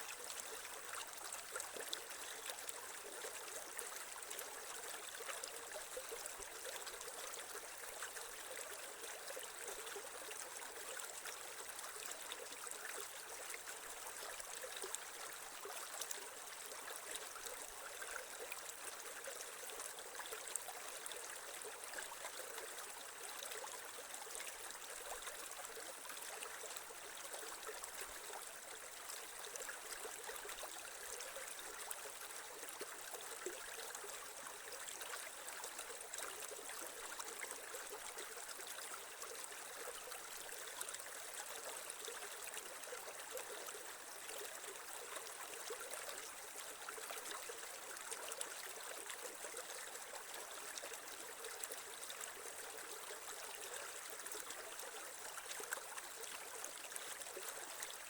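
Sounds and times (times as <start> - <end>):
creek water babbling over stones: 0.0 - 58.0.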